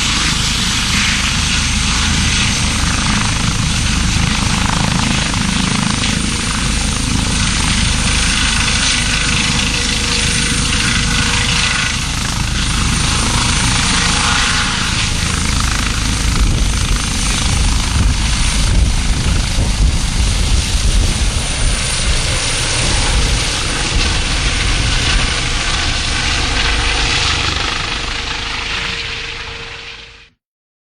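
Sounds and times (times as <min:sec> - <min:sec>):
helicopter rotor and turbine: 0:00.0 - 0:30.4.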